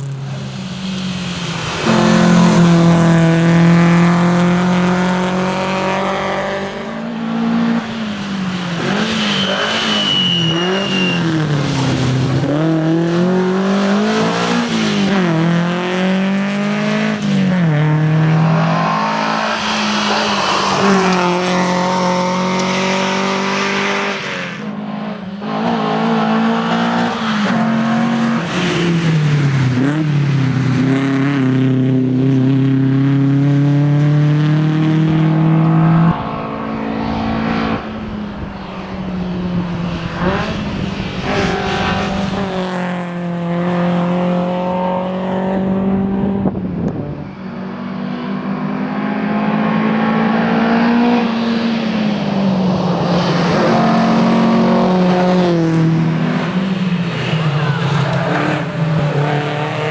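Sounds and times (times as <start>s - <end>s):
rally car engine accelerating: 0.0s - 59.9s.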